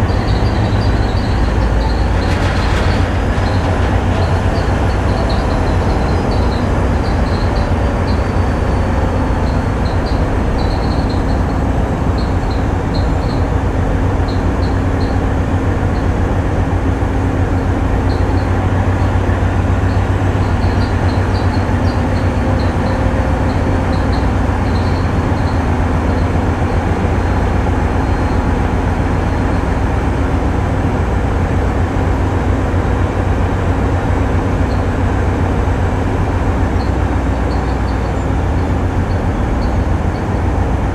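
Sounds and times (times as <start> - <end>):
diesel engines droning: 0.0 - 40.9.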